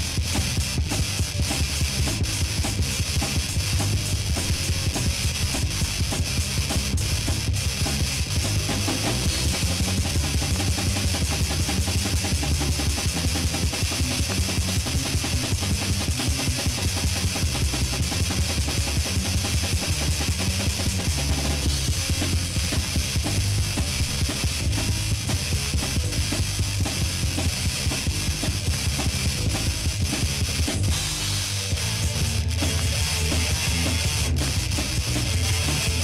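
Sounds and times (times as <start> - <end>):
heavy metal music: 0.0 - 36.0.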